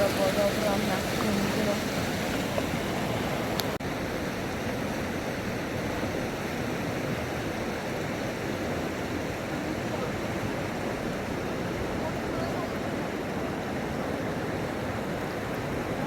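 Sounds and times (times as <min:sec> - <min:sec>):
river floodwater rushing: 0:00.0 - 0:16.0.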